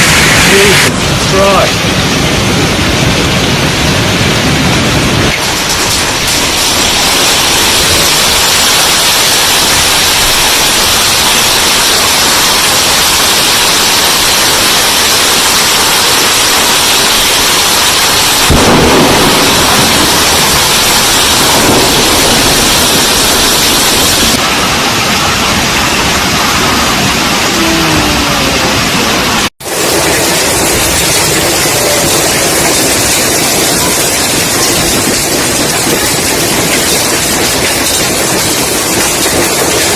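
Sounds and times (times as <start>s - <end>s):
heavy hail and rain pounding: 0.0s - 39.9s.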